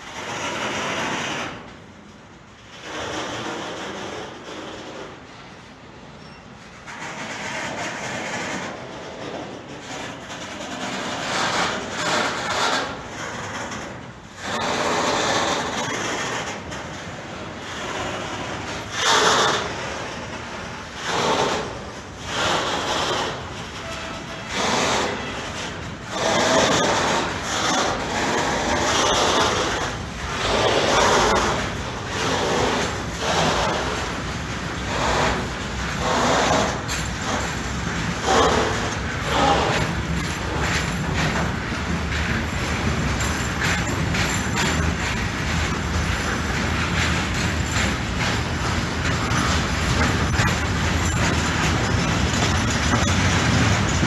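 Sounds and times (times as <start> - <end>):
train rolling past on tracks: 0.0 - 54.0.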